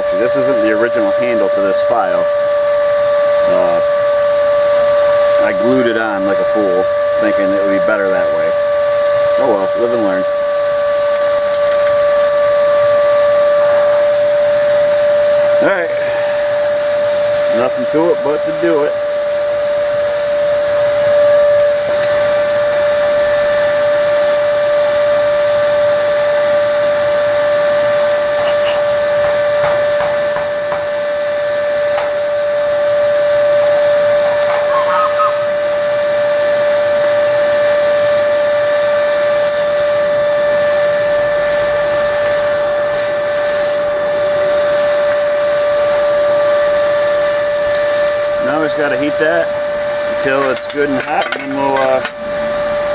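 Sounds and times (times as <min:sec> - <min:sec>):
electric blower whining: 0:00.0 - 0:52.9.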